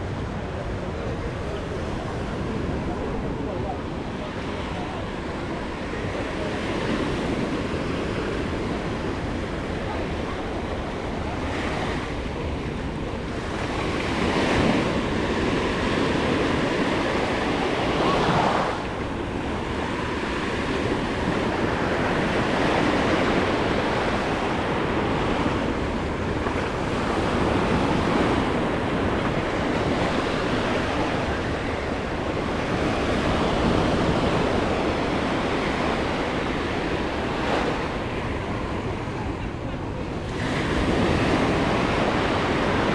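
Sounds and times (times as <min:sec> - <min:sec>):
small waves breaking on beach: 0:01.0 - 0:42.9.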